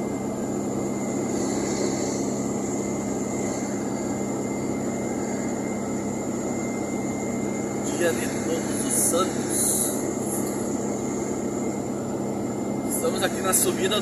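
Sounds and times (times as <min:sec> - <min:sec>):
engine and tyre drone: 0:00.0 - 0:14.0.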